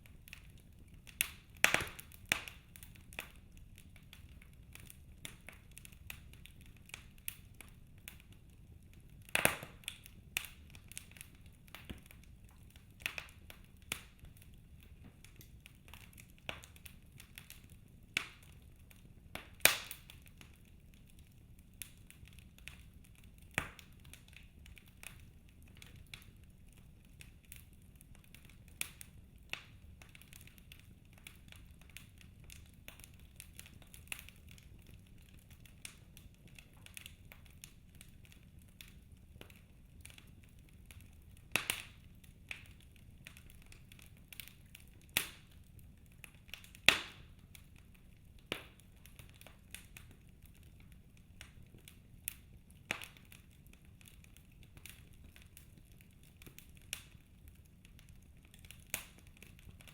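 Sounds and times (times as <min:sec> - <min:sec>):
faint low hiss: 0:00.0 - 0:59.9
wood fire crackling: 0:00.0 - 0:59.9.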